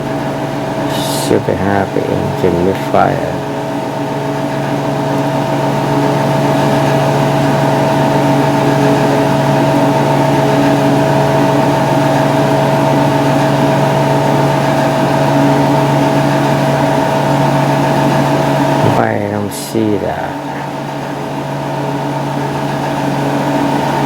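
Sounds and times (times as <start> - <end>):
mechanical hum: 0.0 - 24.0
mid-pitched whine: 0.0 - 24.0.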